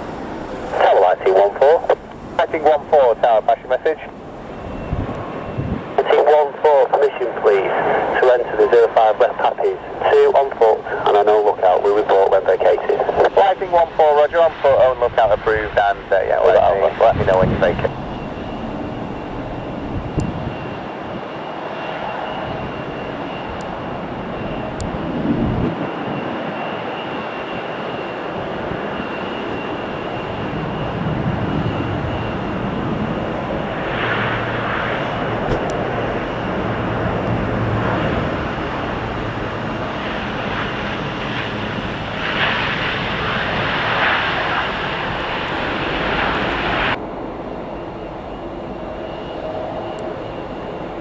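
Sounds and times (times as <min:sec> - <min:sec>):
gusting wind: 0:00.0 - 0:51.0
jet engines passing: 0:00.0 - 0:51.0.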